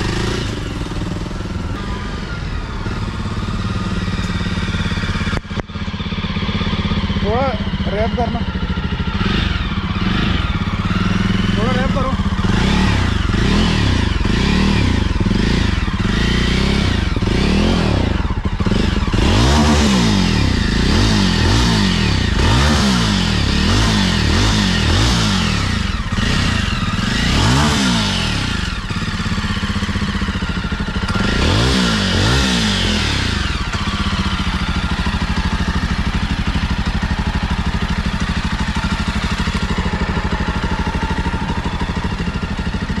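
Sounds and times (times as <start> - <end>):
motorcycle engine idling: 0.0 - 43.0
motorcycle engine revving: 0.0 - 43.0.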